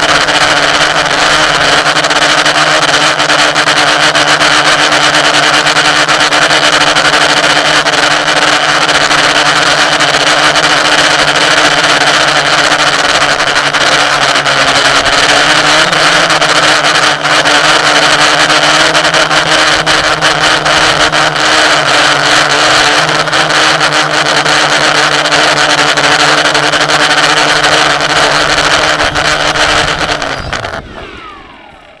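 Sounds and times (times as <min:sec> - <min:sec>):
mechanical drone: 0:00.0 - 0:32.0.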